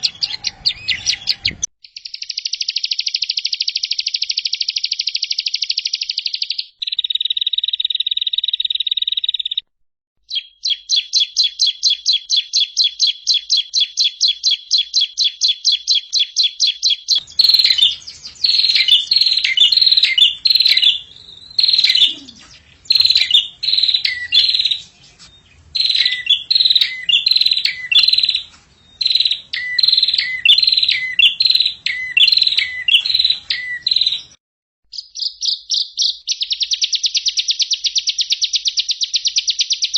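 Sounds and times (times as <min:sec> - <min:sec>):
sharp down-sliding bird chirps: 0:00.0 - 0:09.6, 0:10.3 - 0:39.9
songbird trills: 0:00.0 - 0:09.6, 0:10.3 - 0:39.9.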